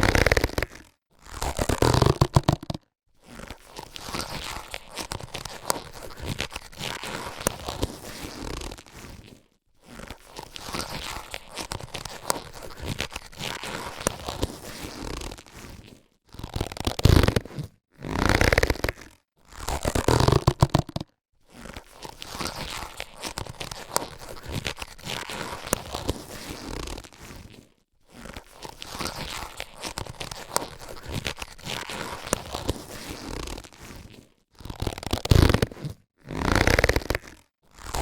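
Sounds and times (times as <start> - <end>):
latex gloves rubbing and crackling: 0.0 - 38.0.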